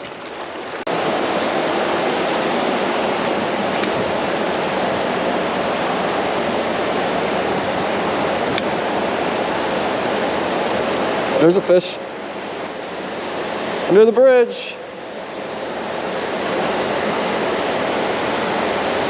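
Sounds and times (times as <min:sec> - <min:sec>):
creek water rushing: 0:00.0 - 0:19.0.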